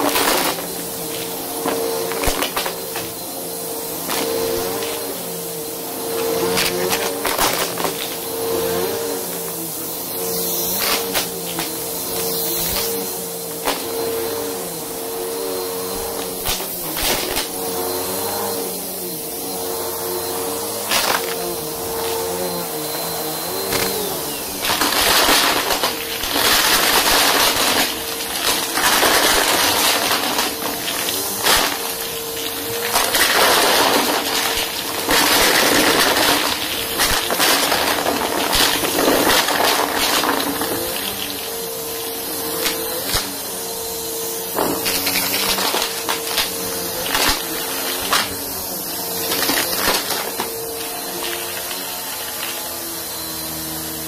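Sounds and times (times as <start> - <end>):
vacuum cleaner running on carpet: 0.0 - 54.0
vacuum sucking up crunchy debris: 0.0 - 54.0.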